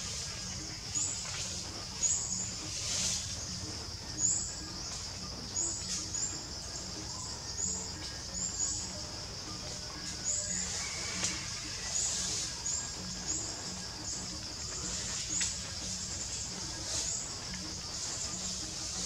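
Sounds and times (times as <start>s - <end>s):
birds chirping: 0.0s - 19.0s
steady high-pitched drone: 0.0s - 19.0s.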